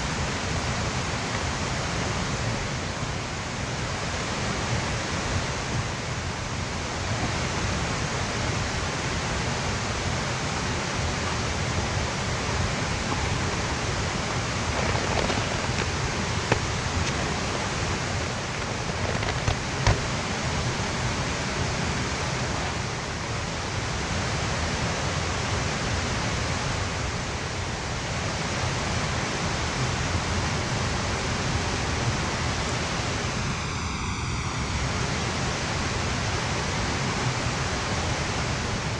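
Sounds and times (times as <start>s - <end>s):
stream water rushing: 0.0s - 33.5s.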